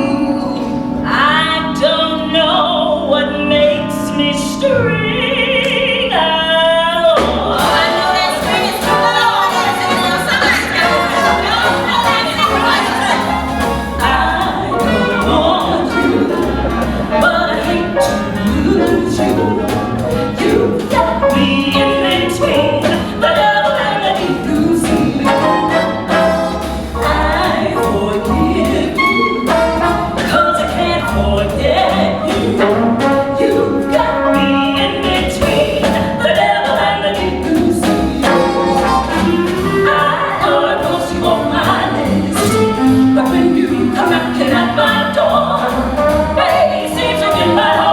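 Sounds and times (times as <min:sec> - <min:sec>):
big band jazz: 0:00.0 - 0:47.9.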